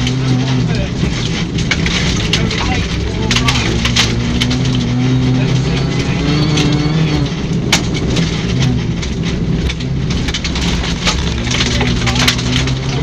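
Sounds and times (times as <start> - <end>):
rally car engine: 0.0 - 13.0.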